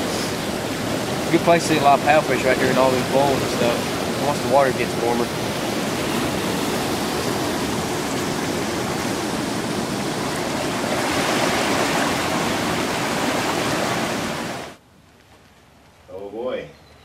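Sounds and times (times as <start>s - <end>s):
turbulent water churning: 0.0s - 14.8s.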